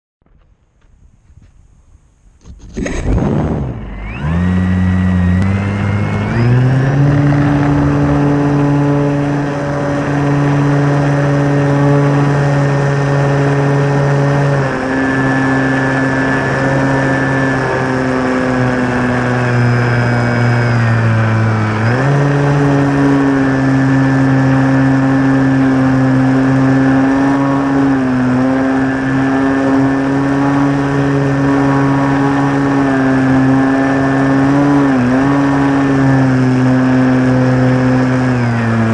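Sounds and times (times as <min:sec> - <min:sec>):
model plane motor and propeller: 0:02.4 - 0:38.9.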